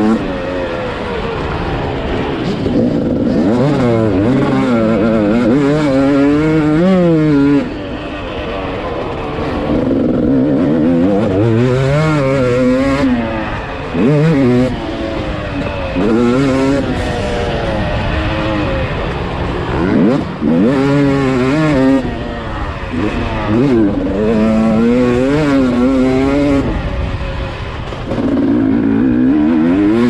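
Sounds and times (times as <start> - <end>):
two-stroke motorbike engine revving: 0.0 - 30.0.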